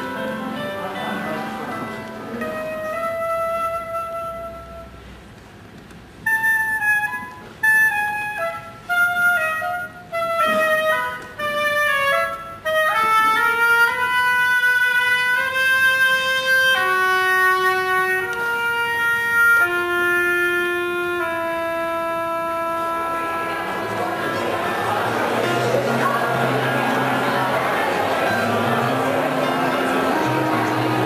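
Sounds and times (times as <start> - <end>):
solo clarinet-like woodwind melody: 0.0 - 5.2, 6.2 - 31.0.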